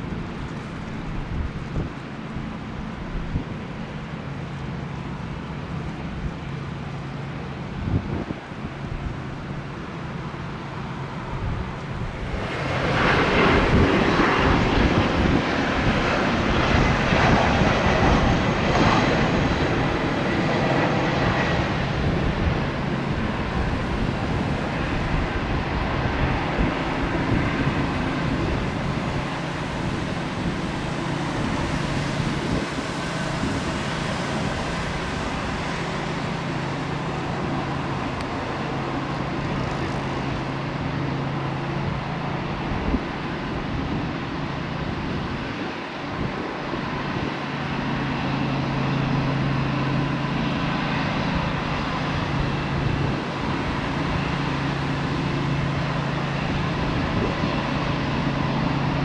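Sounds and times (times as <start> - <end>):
high jet engine whine: 0.0 - 59.0
jet airliner landing: 0.0 - 59.0.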